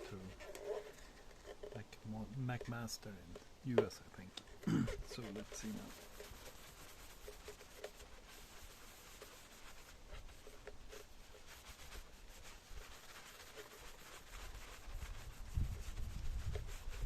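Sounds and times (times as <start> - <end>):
rubbing and scratching on plastic: 0.0 - 17.0.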